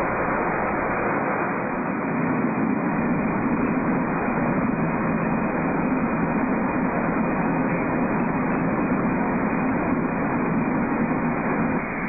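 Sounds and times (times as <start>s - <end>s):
low hum: 0.0s - 12.0s
steady mechanical noise: 0.0s - 12.0s.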